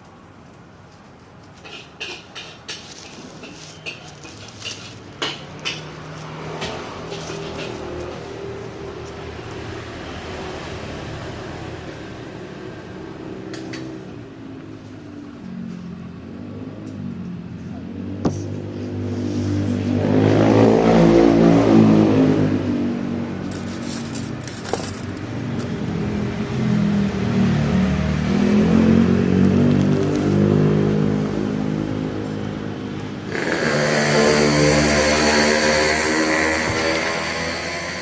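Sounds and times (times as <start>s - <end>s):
vehicles passing close by: 0.0s - 38.0s.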